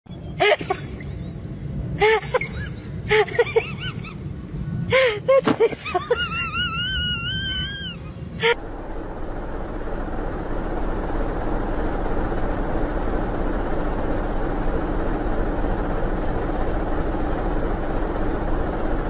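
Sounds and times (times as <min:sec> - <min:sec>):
diesel truck engine running: 0:00.1 - 0:19.0.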